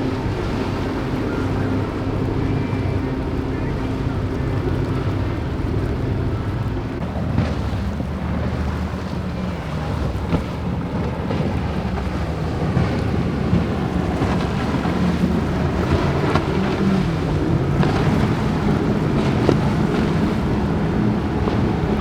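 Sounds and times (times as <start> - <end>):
motorboat engines droning: 0.0 - 22.0
waves washing: 0.0 - 22.0
wind buffeting microphone: 0.0 - 22.0.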